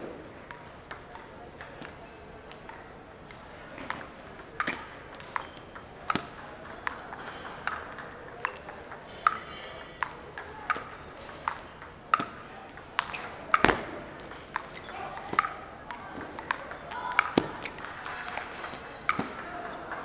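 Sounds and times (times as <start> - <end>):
table tennis ball clicks: 0.4 - 20.0.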